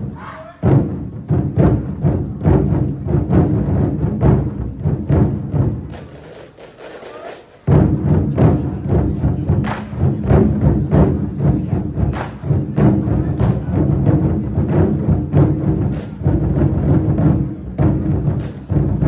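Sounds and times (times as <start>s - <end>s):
large drums ensemble playing: 0.0s - 19.0s.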